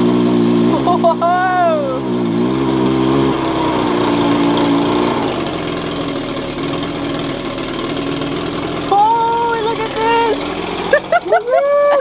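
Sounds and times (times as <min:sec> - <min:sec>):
leaf blower engine running: 0:00.0 - 0:12.0.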